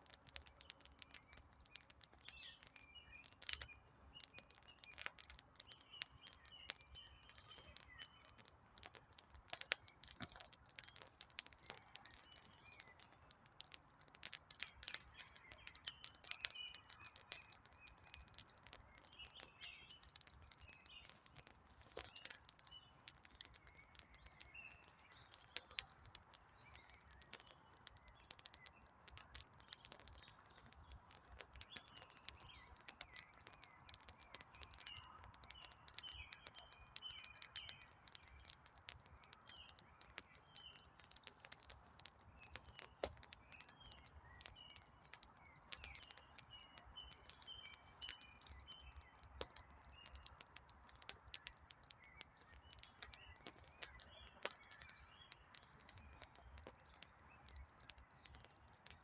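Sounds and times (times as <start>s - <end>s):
small birds chirping: 0.0s - 59.0s
wood fire crackling: 0.0s - 59.0s.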